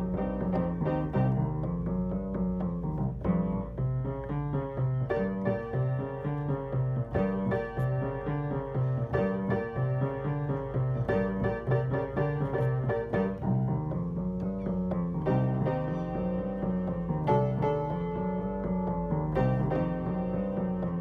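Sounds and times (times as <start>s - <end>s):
piano-led background music: 0.0s - 21.0s.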